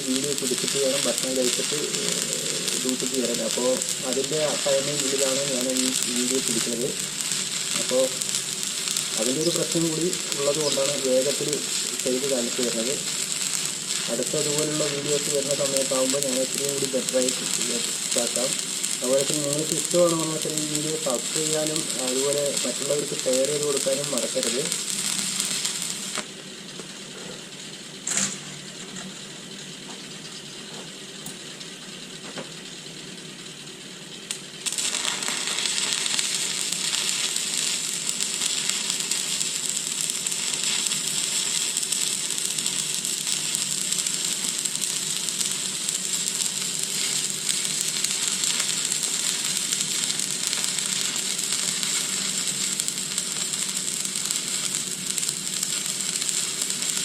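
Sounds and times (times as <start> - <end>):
steady hum: 0.0 - 57.0
welding arc crackling: 0.0 - 57.0.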